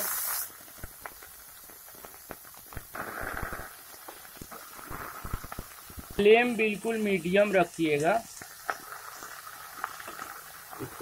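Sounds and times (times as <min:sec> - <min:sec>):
loud sizzle in hot oil: 0:00.0 - 0:11.0
quiet frying sizzle: 0:00.0 - 0:11.0.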